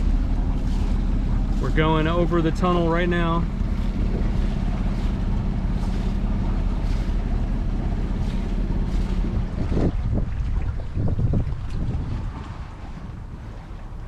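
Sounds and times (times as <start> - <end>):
water washing along hull: 0.0 - 14.0
wind buffeting microphone: 0.0 - 14.0.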